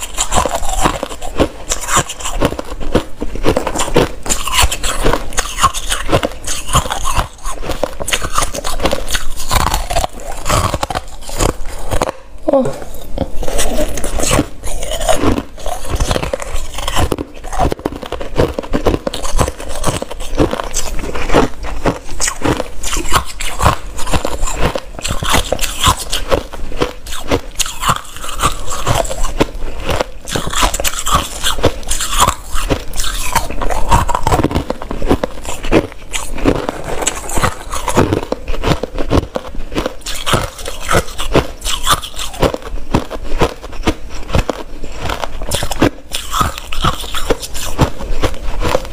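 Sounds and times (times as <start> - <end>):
person crunching ice: 0.0 - 48.9.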